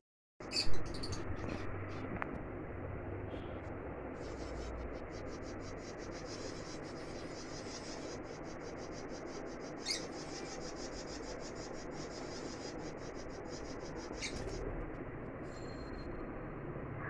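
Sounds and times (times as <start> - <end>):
caged birds chattering: 0.4 - 2.2, 3.2 - 16.3
low background hum: 0.4 - 17.0.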